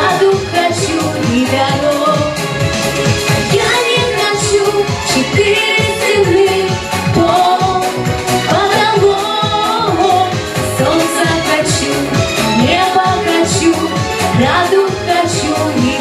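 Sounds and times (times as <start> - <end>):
person singing over music: 0.0 - 16.0.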